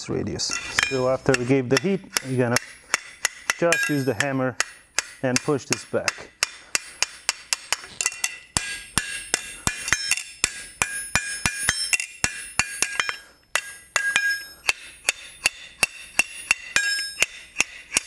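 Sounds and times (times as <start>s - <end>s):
hammer striking steel on anvil: 0.5s - 18.0s.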